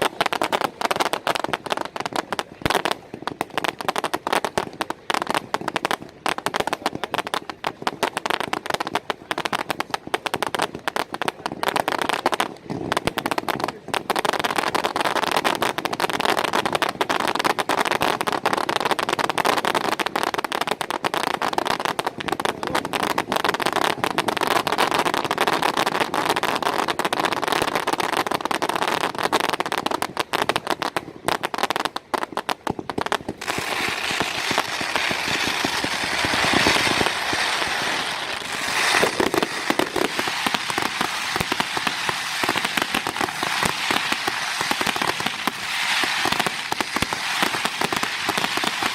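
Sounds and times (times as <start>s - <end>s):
fireworks cracks and bangs: 0.0s - 48.9s
fireworks hissing crackle: 0.0s - 48.9s.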